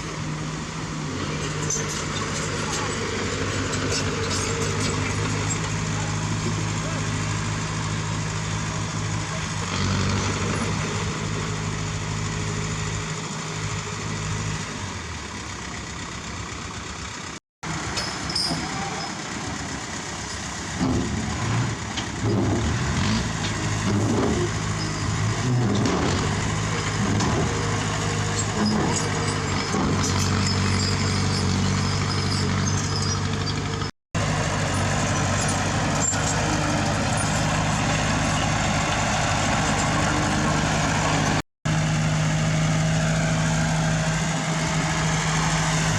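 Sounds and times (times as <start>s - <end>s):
heavy diesel engines running: 0.0s - 45.9s.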